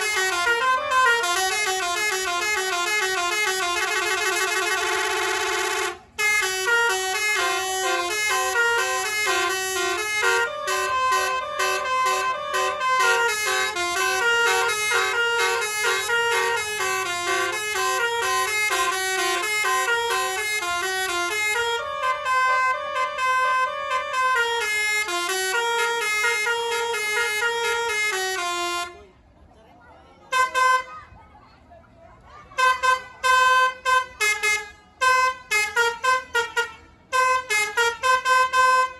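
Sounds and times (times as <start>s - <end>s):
bus horn playing a melody: 0.0s - 29.1s, 30.3s - 31.0s, 32.6s - 38.9s.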